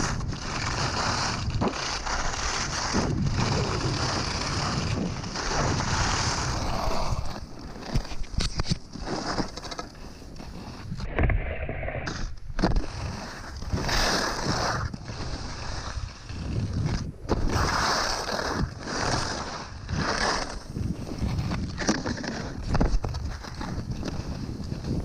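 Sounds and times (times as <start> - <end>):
skis scraping over icy snow: 0.0 - 25.0
wind rumble on microphone: 0.0 - 25.0.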